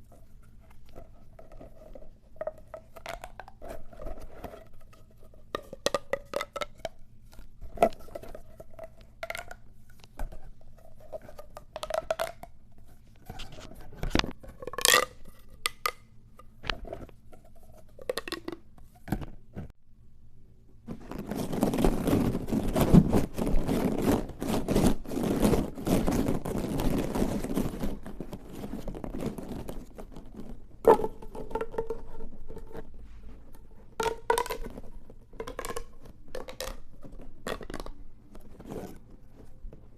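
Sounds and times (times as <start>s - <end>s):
plastic tube crackling: 0.0s - 19.7s, 20.8s - 39.9s.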